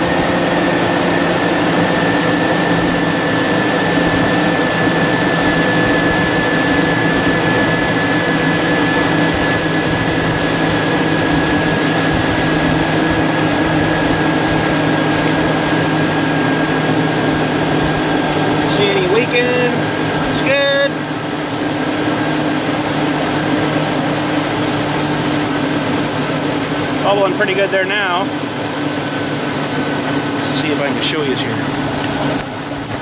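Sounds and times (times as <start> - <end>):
thin high whine: 0.0 - 33.0
truck engine idling: 0.0 - 33.0.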